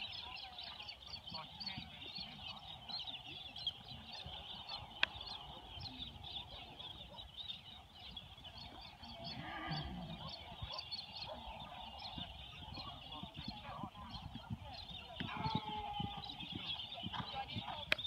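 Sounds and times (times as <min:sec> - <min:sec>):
flock of birds chattering: 0:00.0 - 0:18.0.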